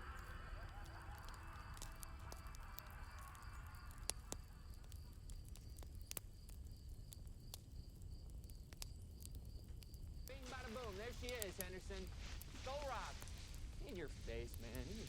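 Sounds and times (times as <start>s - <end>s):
campfire crackling: 0.0s - 15.0s
crickets chirping: 0.0s - 15.0s
sharp pops of fire: 0.0s - 15.0s.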